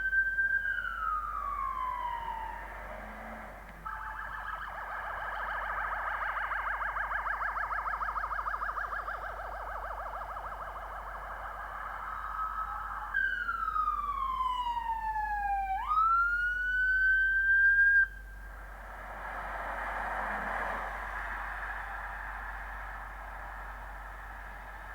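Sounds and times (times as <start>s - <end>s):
police siren: 0.0s - 24.9s.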